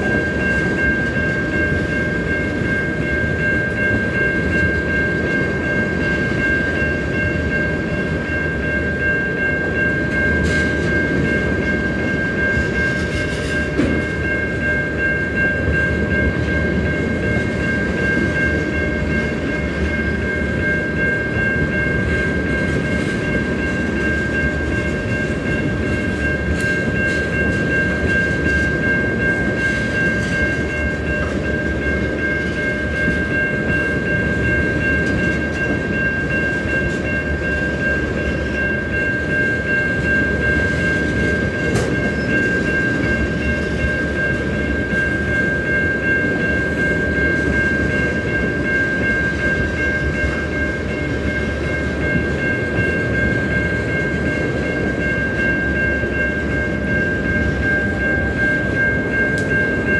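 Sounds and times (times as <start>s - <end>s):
rumble of train wheels on rail: 0.0s - 59.9s
steady high-pitched tone: 0.0s - 59.9s.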